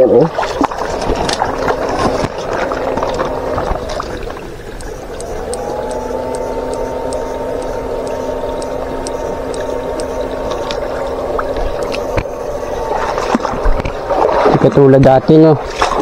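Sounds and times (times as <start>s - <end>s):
stream trickling: 0.0s - 16.0s
inverter whining: 0.4s - 15.4s
faint regular ticks: 1.0s - 14.0s.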